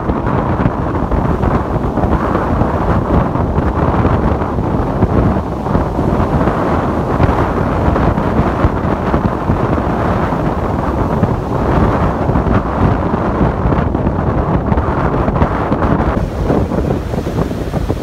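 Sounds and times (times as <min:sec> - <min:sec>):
ocean waves washing in: 0:00.0 - 0:18.0
wind buffeting microphone: 0:00.0 - 0:18.0.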